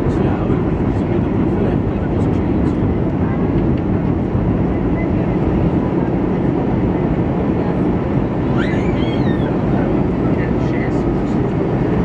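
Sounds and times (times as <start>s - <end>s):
airplane cabin airflow and engine drone: 0.0s - 12.0s.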